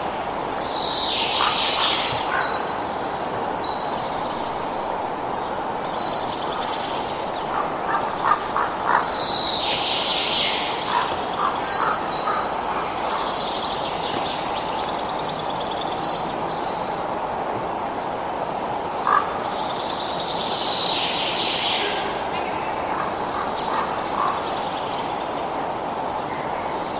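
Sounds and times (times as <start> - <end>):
songbirds chirping: 0.1 - 26.9
warbling birdsong: 0.2 - 17.1, 18.6 - 26.9.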